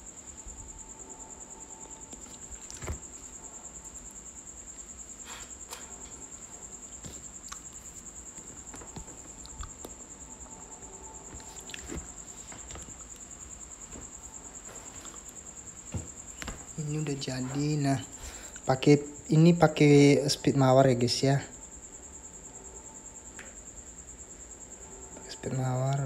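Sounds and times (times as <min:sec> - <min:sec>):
cricket chirping: 0:00.0 - 0:26.0.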